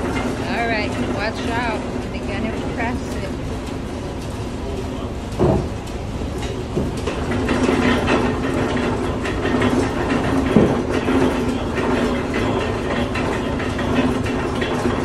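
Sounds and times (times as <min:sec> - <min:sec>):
constant low hum: 0:00.0 - 0:15.0
machinery clattering: 0:00.0 - 0:15.0.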